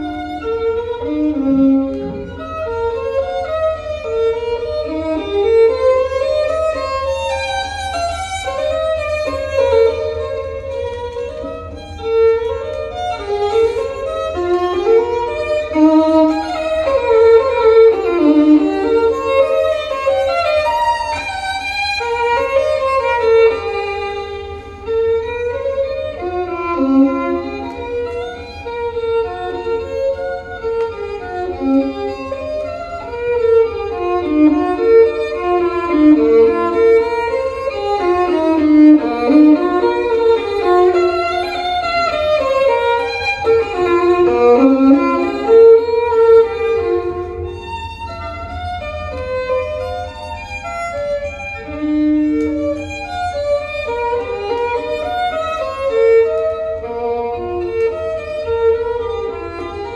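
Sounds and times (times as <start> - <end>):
violin music over loudspeakers: 0.0 - 59.9.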